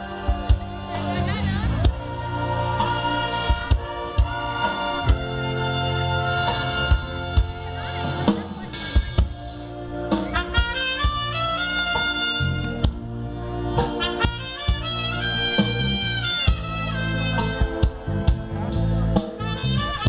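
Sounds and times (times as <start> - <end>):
trumpets holding chords: 0.0 - 20.0.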